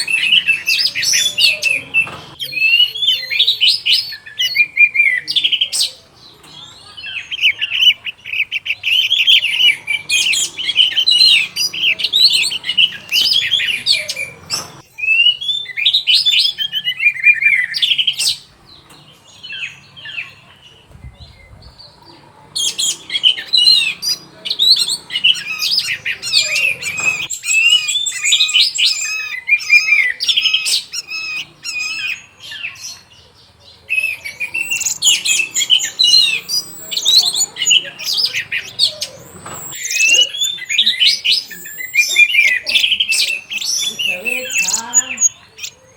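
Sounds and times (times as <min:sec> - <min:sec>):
thrush singing: 0:00.0 - 0:32.8, 0:33.8 - 0:45.9.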